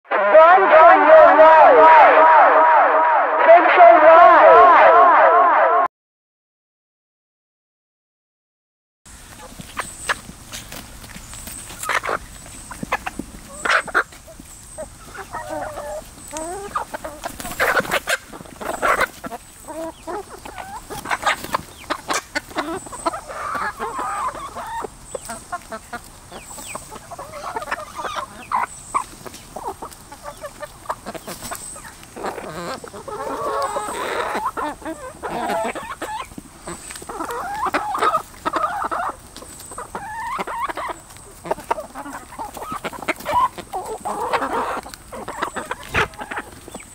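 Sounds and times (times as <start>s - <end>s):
chickens clucking: 9.1s - 46.9s.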